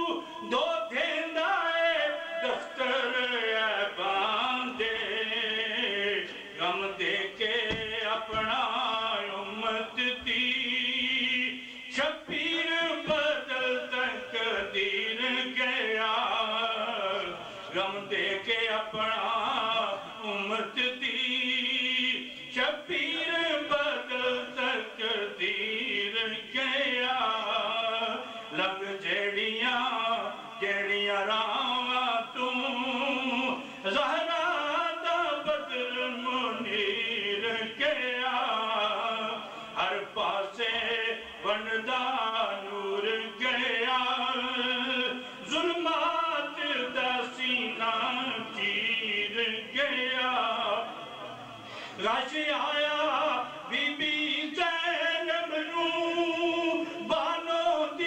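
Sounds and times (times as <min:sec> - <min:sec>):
man chanting into microphone: 0:00.0 - 0:58.0.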